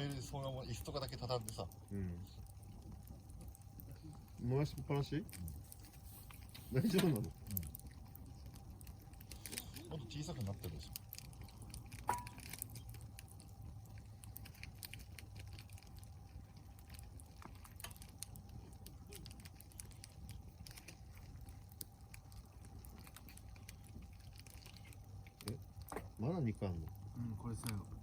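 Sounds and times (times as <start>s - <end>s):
log fire crackling: 0.0s - 28.0s
low steady hum: 0.0s - 28.0s.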